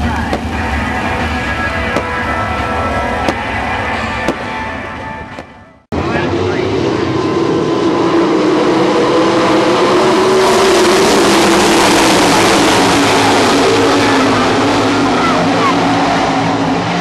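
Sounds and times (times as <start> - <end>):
race car engines roaring past: 0.0 - 17.0.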